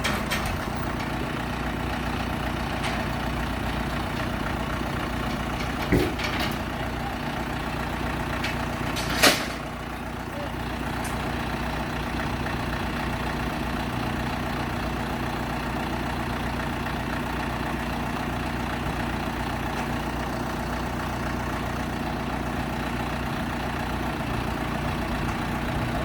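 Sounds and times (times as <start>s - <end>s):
heavy equipment engine idling: 0.0s - 26.0s.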